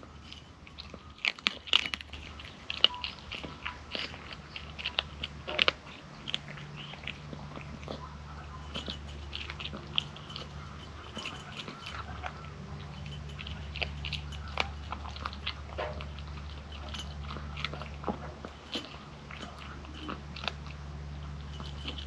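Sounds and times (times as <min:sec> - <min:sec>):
kitten chewing crunchy food: 0:00.0 - 0:22.0
steady low hum: 0:00.0 - 0:22.0.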